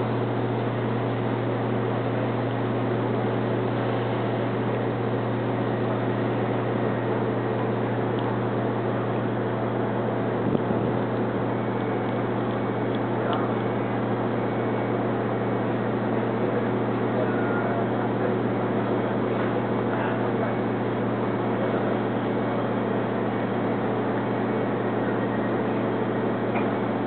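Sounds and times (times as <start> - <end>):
ship machinery humming: 0.0 - 27.0.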